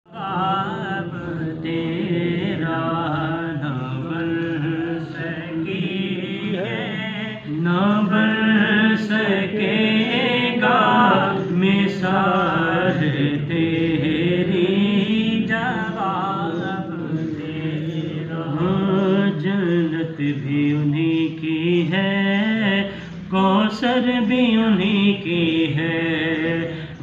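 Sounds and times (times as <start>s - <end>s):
man reciting melodically: 0.1s - 27.0s.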